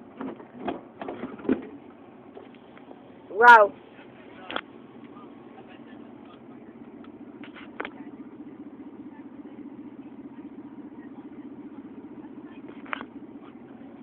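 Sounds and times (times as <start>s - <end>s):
van engine idling: 0.0s - 14.0s.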